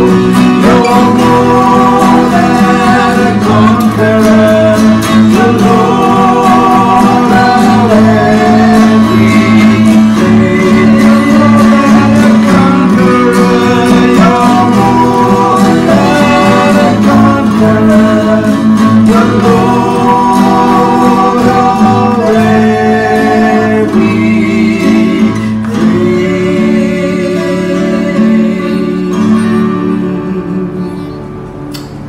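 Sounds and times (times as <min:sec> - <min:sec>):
man singing: 0:00.0 - 0:31.3
strummed acoustic guitar: 0:00.0 - 0:32.0.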